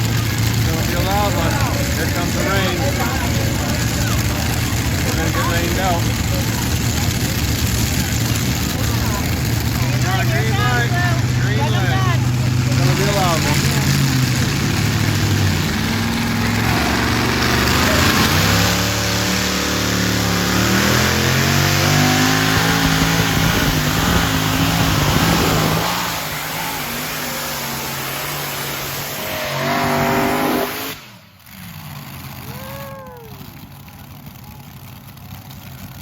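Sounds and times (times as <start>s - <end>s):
tractor engine at full throttle: 0.0s - 36.0s.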